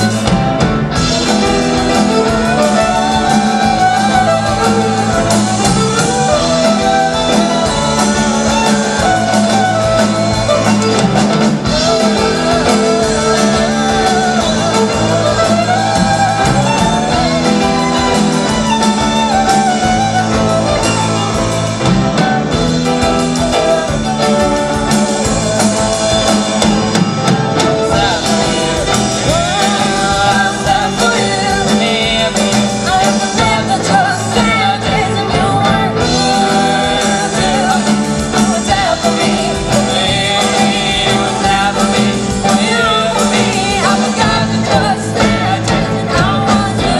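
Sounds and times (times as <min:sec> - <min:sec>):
person singing: 0:00.0 - 0:46.9
pop-rock band playing: 0:00.0 - 0:46.9.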